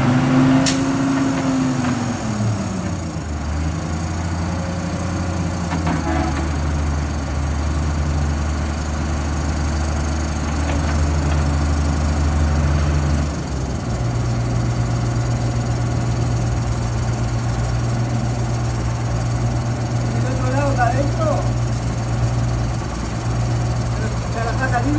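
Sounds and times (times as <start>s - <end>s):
engine running: 0.0s - 24.9s.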